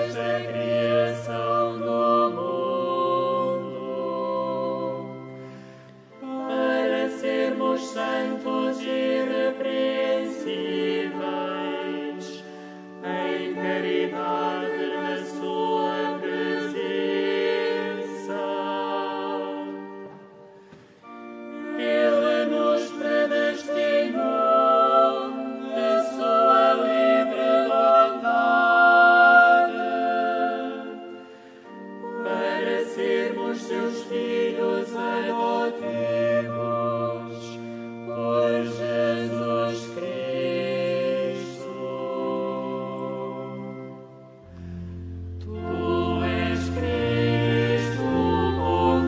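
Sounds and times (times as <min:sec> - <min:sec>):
choir singing: 0:00.0 - 0:49.0.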